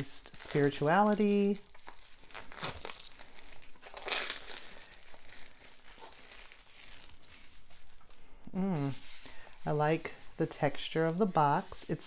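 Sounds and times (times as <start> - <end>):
plastic wrap tearing and crinkling: 0.0 - 12.0.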